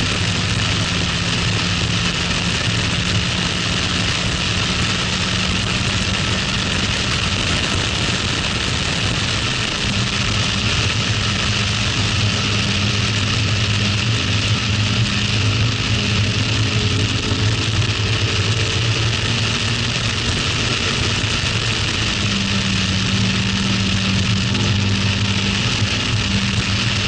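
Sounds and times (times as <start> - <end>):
car engine running hard: 0.0 - 27.0
wind and road noise: 0.0 - 27.0.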